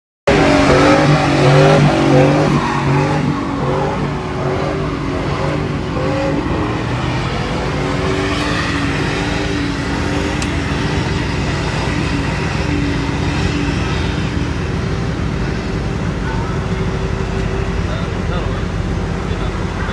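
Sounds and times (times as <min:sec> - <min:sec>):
truck engine at high revs: 0:00.3 - 0:19.9.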